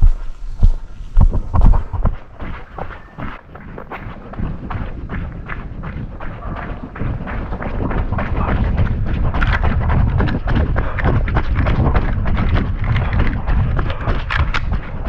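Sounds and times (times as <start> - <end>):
footsteps through scrub: 0.0 - 15.0
microphone jostling rumble: 0.0 - 15.0.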